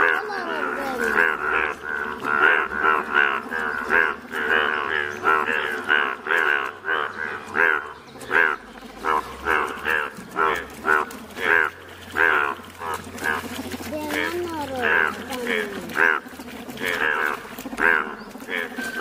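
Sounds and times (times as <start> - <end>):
bullfrog chorus calling: 0.0 - 19.0.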